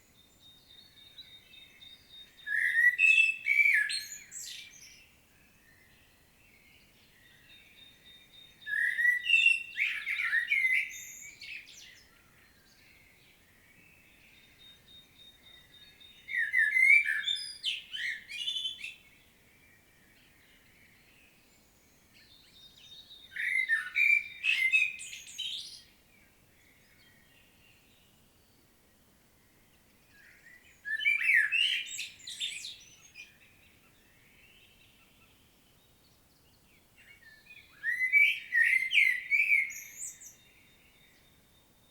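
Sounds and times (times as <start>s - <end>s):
blackbird singing: 0.0s - 25.9s, 30.0s - 41.9s.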